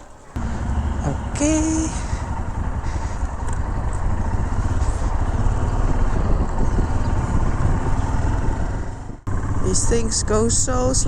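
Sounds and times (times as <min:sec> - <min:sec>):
motorcycle engine running: 0:00.0 - 0:11.0
wind rush on microphone: 0:00.6 - 0:11.0.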